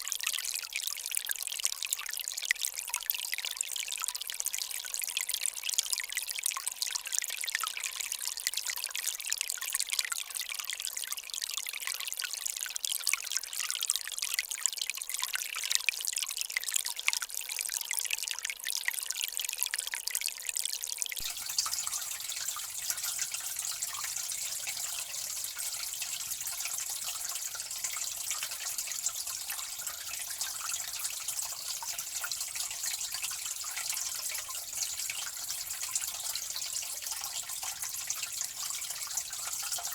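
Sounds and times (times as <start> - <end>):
water running in a stream: 0.0 - 39.9
water trickling and dripping: 0.0 - 39.9.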